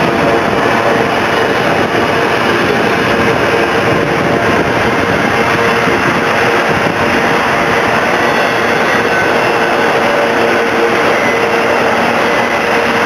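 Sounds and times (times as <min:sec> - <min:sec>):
steel wheels running on rails: 0:00.0 - 0:13.0.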